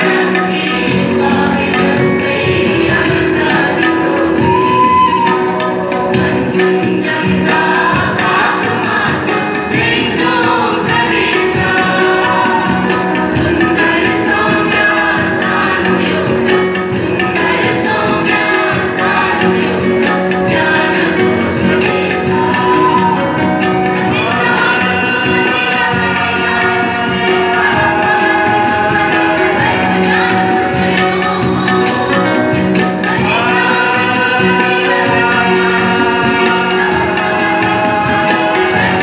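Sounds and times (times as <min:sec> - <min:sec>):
mixed choir singing: 0:00.0 - 0:39.0.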